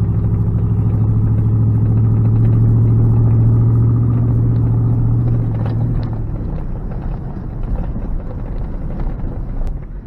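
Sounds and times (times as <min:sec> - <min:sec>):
truck engine running: 0:00.0 - 0:10.0
tyres rumbling on dirt road: 0:00.0 - 0:10.0.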